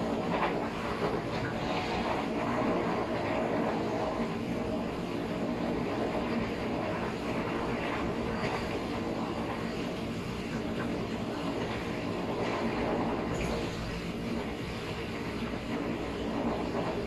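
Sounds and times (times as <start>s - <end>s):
train running noise: 0.0s - 17.0s.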